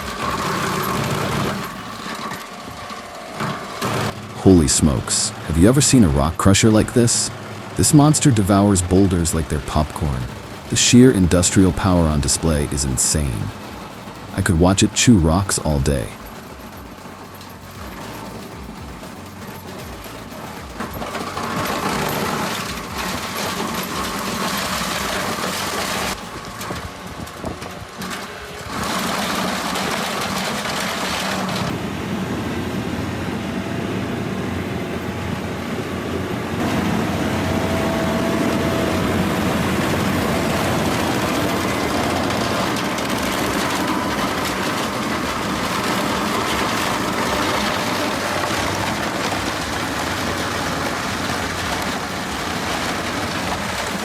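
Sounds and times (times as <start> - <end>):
heavy machinery engines running: 0.0 - 54.0.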